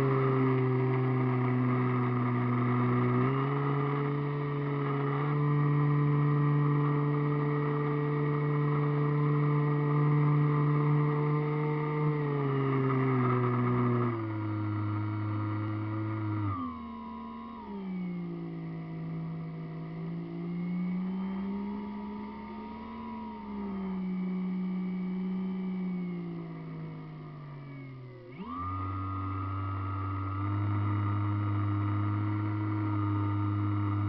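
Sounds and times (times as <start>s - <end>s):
model airplane motor drone: 0.0s - 34.0s.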